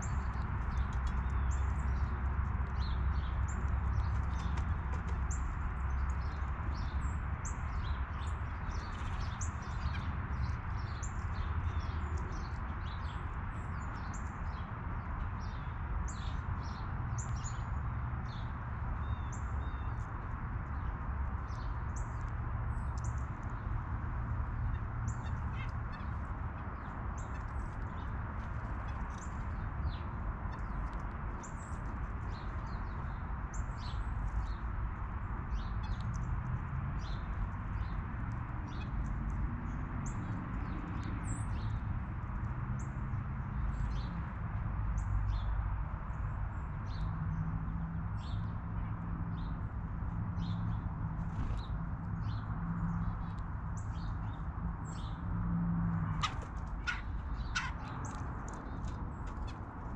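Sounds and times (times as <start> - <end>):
small birds chirping: 0.0 - 44.2, 50.4 - 55.3, 56.0 - 59.9.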